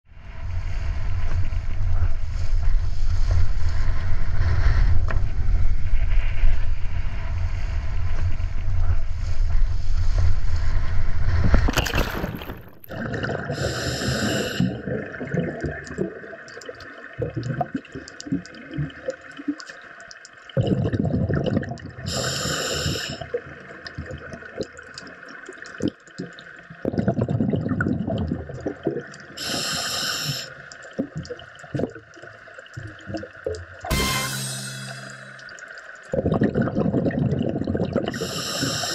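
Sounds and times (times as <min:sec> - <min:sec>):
underwater gurgling and bubbling: 0:00.6 - 0:34.0, 0:35.1 - 0:38.9.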